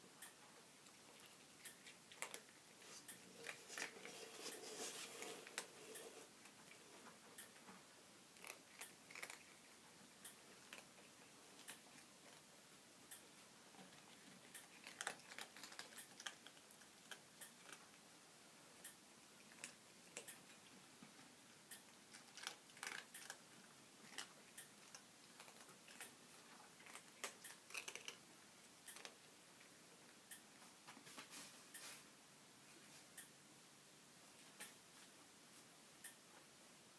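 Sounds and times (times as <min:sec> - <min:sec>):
cats crunching food: 0:00.5 - 0:18.1, 0:18.8 - 0:31.9.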